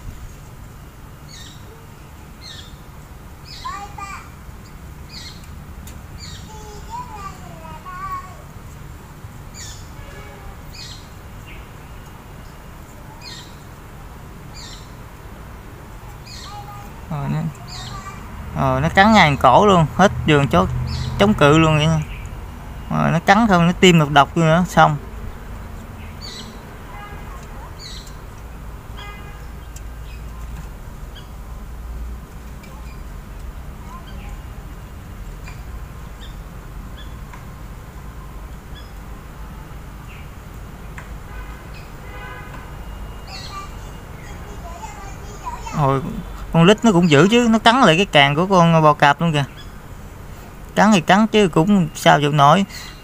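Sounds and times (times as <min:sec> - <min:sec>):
birds chirping: 0:00.0 - 0:53.0
low background noise: 0:00.0 - 0:53.0.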